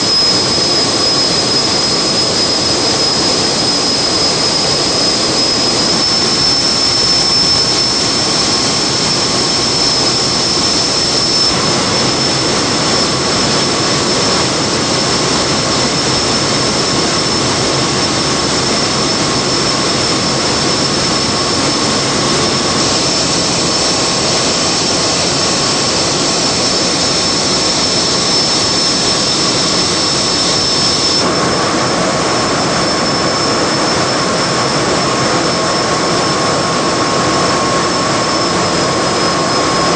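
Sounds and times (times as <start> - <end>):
gas engines roaring: 0.0 - 39.8
high-pitched machinery whine: 0.0 - 39.9.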